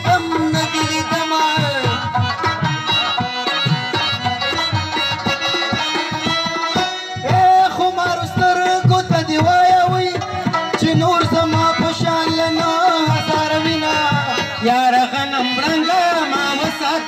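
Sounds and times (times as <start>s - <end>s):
harmonium melody: 0.0s - 17.0s
tabla rhythm: 0.0s - 17.0s.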